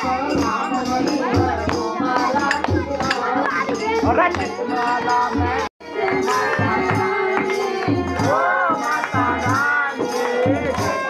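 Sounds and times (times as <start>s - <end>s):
hand drum beats: 0.0s - 11.0s
jingling percussion: 0.0s - 11.0s
rhythmic hand-clapping: 0.0s - 11.0s
women and children singing: 0.0s - 11.0s.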